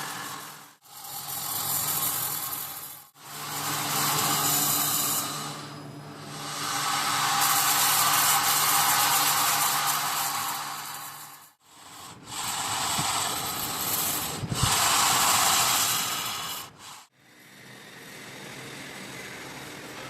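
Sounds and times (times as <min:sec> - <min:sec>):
wire machinery hissing and rubbing: 0:00.0 - 0:17.2.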